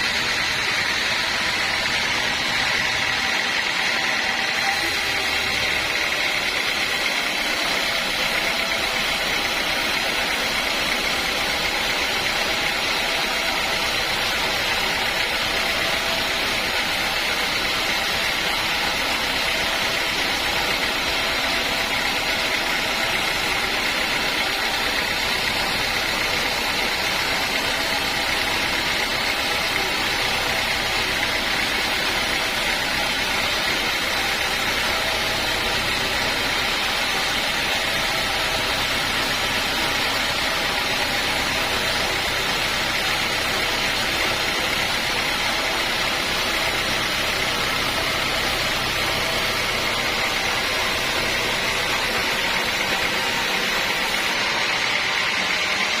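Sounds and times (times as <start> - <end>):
high machine whine: 0.0 - 56.0
sawmill machinery running: 0.0 - 56.0.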